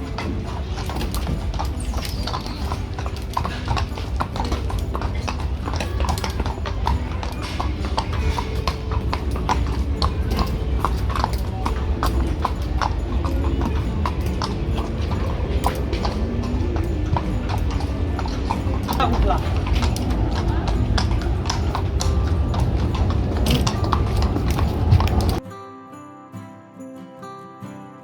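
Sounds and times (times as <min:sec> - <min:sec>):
horse hooves clip-clopping: 0:00.0 - 0:25.4.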